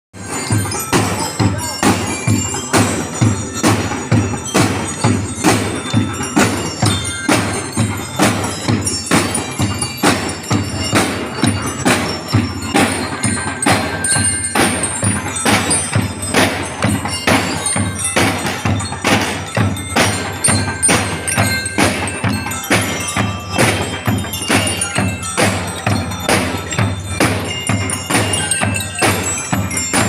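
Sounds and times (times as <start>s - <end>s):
bell lyres playing tune: 0.2s - 30.0s
marching drums beat: 0.2s - 30.0s.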